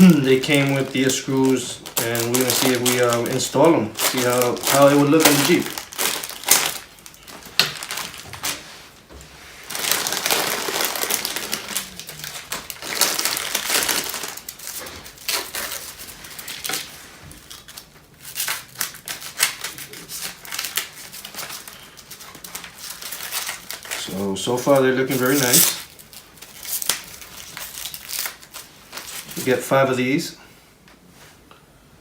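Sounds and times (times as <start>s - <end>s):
plastic packaging crinkling: 0.0s - 29.7s.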